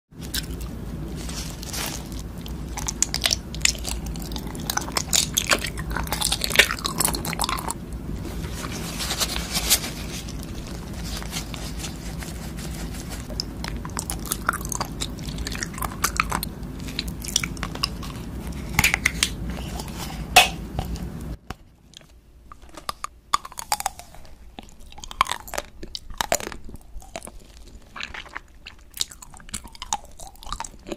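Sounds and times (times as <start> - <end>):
biting and chewing candy: 0.2 - 21.0, 21.9 - 30.9
low steady hum: 0.2 - 30.9.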